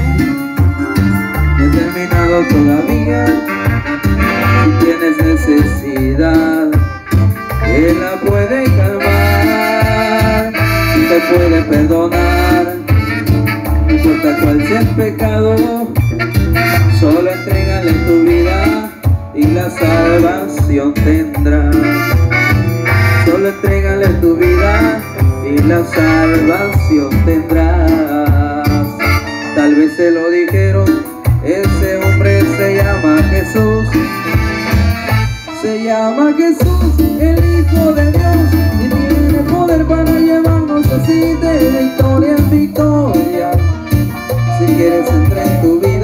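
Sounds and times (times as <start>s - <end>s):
pulsing bass line: 0.0s - 35.5s, 36.6s - 46.0s
electronic keyboard melody: 0.0s - 46.0s
live band music over speakers: 0.0s - 46.0s.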